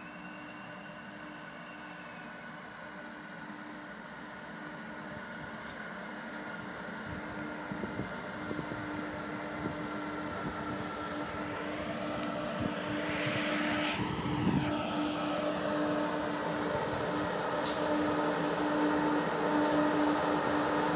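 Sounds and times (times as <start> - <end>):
train running: 0.0 - 20.9.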